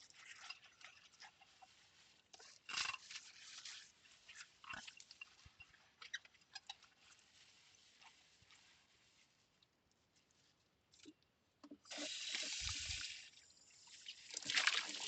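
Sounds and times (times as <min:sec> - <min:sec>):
sponge and water rustling: 0:00.0 - 0:15.0.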